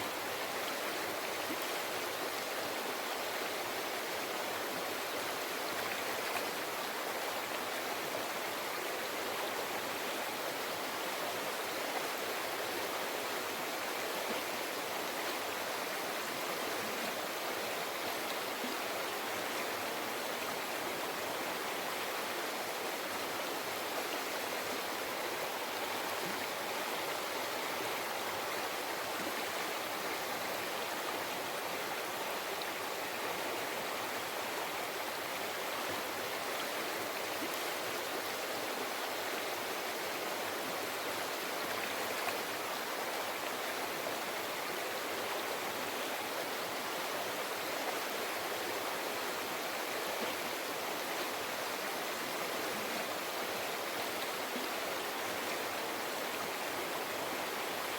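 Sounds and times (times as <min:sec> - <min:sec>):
river flowing over rocks: 0:00.0 - 0:57.9.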